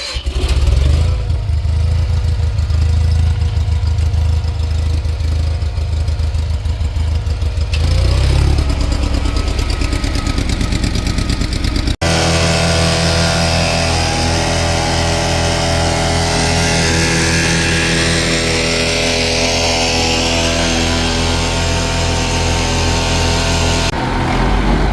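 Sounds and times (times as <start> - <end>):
diesel truck engine running: 0.0 - 24.9
engine idling: 0.0 - 24.9.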